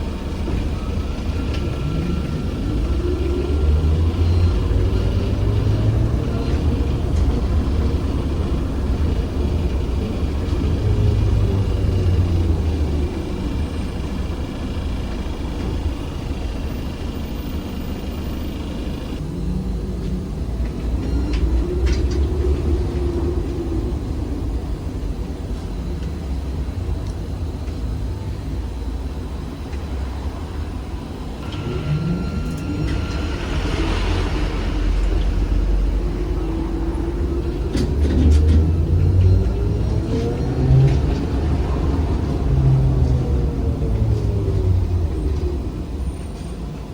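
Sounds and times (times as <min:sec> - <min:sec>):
road rumble: 0:00.0 - 0:46.9
traction motor whine: 0:00.0 - 0:46.9.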